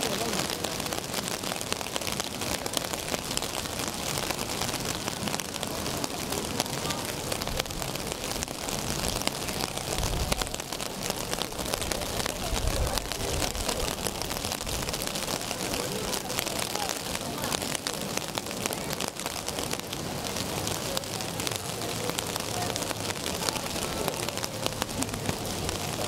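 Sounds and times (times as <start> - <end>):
rain falling on a street: 0.0 - 26.0.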